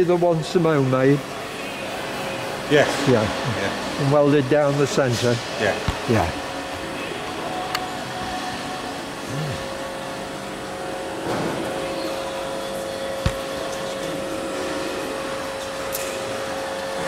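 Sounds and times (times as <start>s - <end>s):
mechanical hum with whine: 0.0s - 17.0s.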